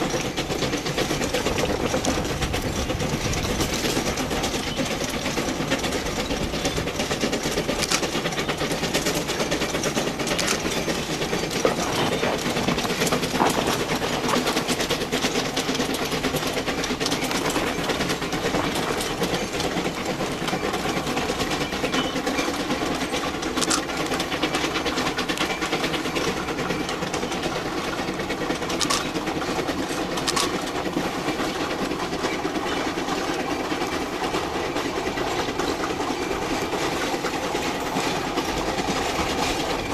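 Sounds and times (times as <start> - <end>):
steam train rapid clatter: 0.0 - 39.9.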